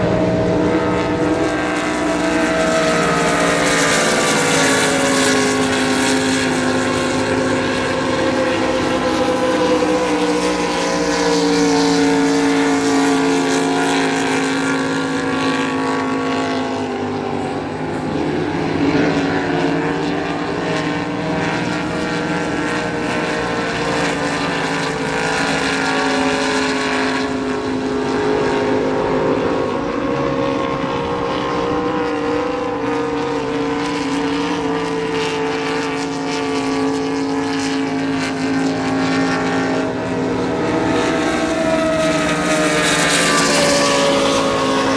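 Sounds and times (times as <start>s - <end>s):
race boat engines: 0.0s - 44.9s.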